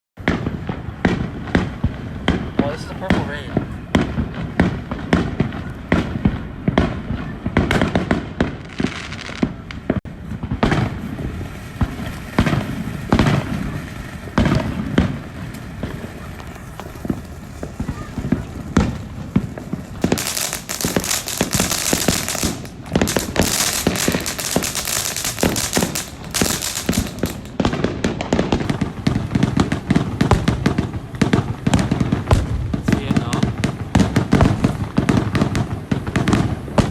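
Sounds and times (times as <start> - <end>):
fireworks bangs and pops: 0.2 - 36.9
fireworks crackling: 0.2 - 36.9.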